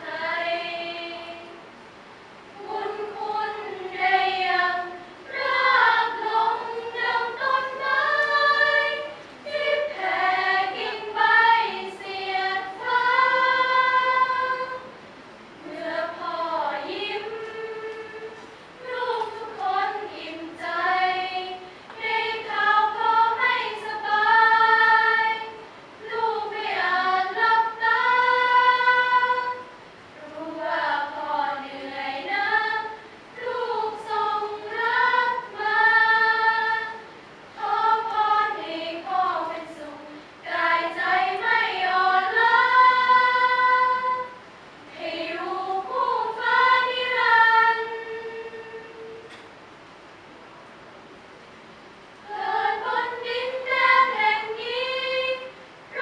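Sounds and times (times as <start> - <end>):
women's choir singing in harmony: 0.0 - 49.5, 52.1 - 56.0.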